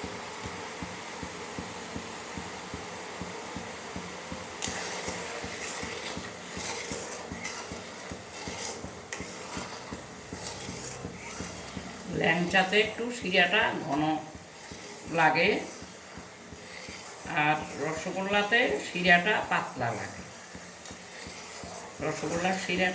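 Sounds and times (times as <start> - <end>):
steady kitchen hiss: 0.0 - 22.9.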